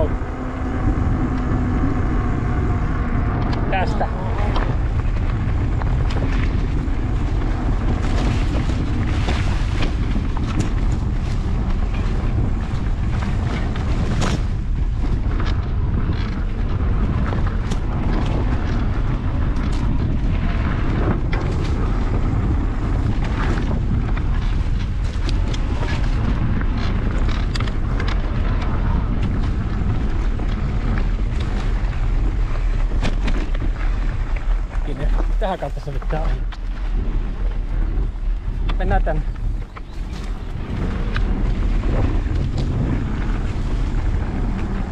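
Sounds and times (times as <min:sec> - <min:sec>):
bike clicks and rattles: 0:00.0 - 0:44.9
bike rolling on dirt track: 0:00.0 - 0:44.9
wind buffeting microphone: 0:00.0 - 0:44.9.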